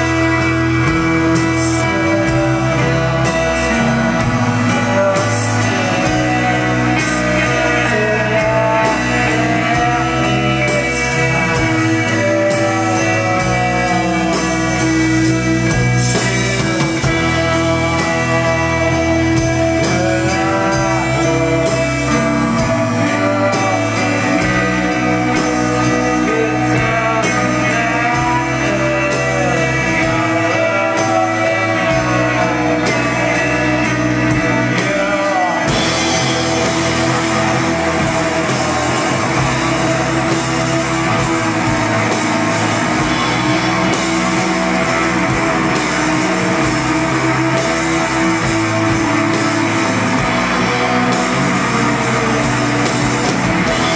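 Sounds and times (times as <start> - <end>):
distorted guitar wash: 0.0 - 53.9
live rock band: 0.0 - 53.9.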